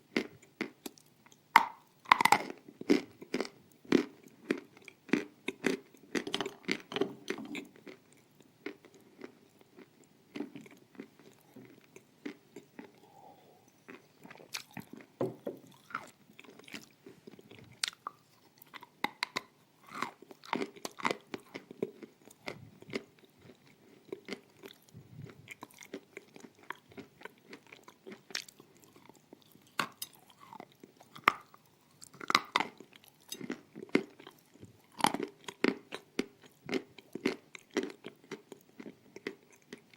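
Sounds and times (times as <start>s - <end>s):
crunching and chewing clay: 0.0s - 39.9s.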